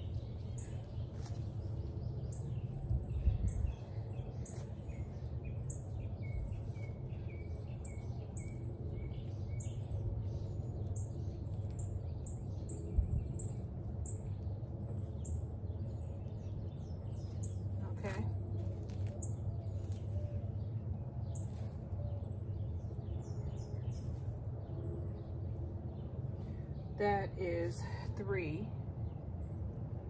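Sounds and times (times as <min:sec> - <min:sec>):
bird chirping: 0:00.0 - 0:27.6
low background rumble: 0:00.0 - 0:30.0.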